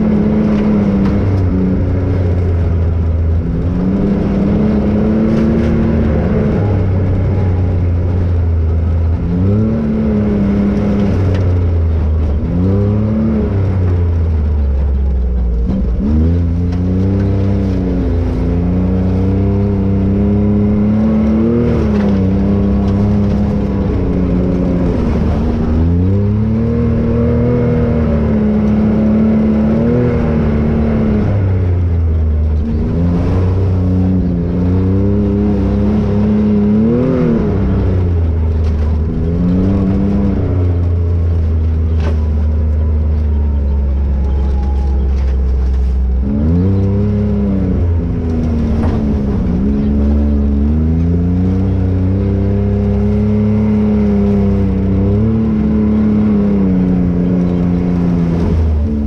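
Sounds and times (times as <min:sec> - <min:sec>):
side-by-side engine driving: 0:00.0 - 0:59.0.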